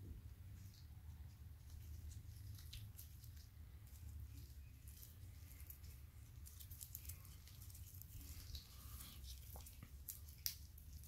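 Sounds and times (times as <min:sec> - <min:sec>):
low steady hum: 0:00.0 - 0:11.0
gloved hands rustling: 0:00.6 - 0:11.0.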